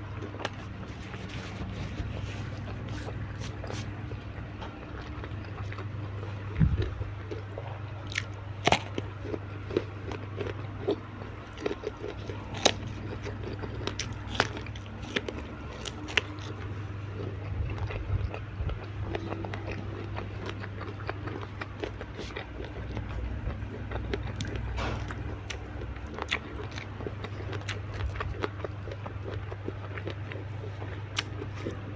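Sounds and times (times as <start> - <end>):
steady low hum: 0.0 - 31.9
wet chewing: 0.1 - 31.9.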